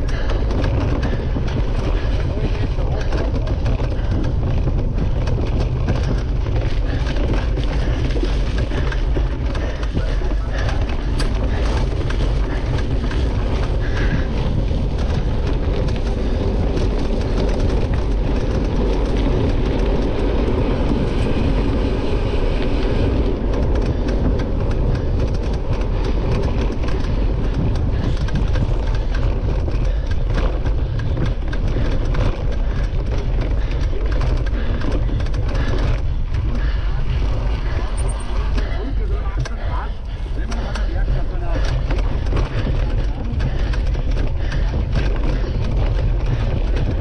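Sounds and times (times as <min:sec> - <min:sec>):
bike rattles and knocks: 0:00.0 - 0:47.0
tyre noise: 0:00.0 - 0:47.0
wind on microphone: 0:00.0 - 0:47.0.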